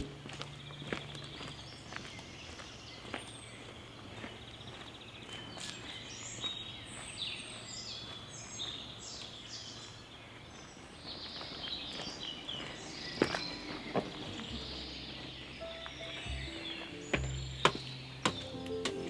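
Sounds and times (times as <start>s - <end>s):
birds singing and chirping: 0.0s - 19.0s
faint background noise: 0.0s - 19.0s.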